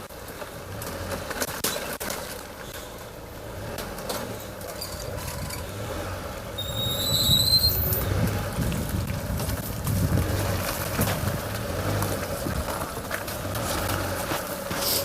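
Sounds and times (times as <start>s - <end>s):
branches scraping car body: 0.0s - 15.0s
engine drone: 0.0s - 15.0s.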